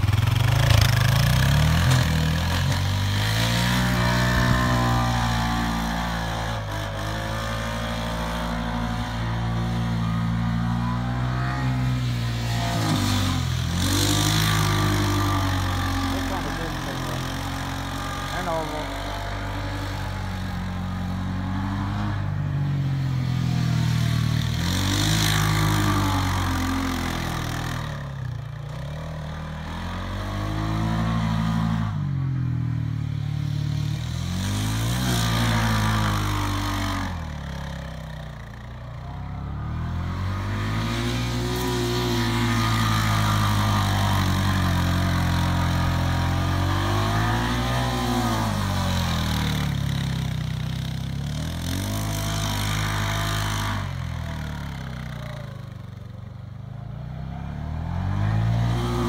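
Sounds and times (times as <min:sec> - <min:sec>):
engine revving under load: 0:00.0 - 0:59.0.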